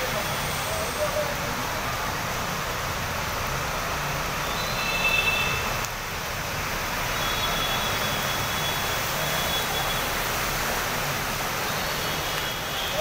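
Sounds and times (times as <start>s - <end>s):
floodwater running over road: 0.0s - 13.0s
heavy rain hissing: 0.0s - 13.0s.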